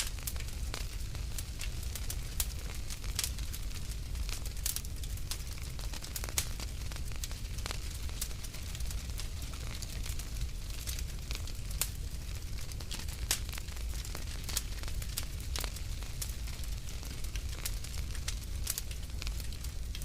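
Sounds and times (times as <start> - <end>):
fire crackles and pops: 0.0 - 20.0
fire flames rumbling: 0.0 - 20.0.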